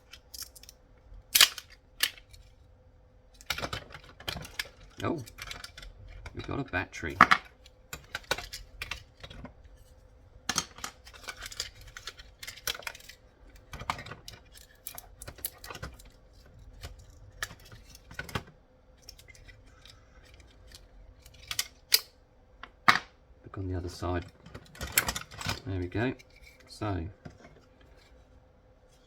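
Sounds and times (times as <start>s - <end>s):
plastic parts clicking and clattering: 0.0s - 2.6s, 3.3s - 23.2s, 23.9s - 28.2s.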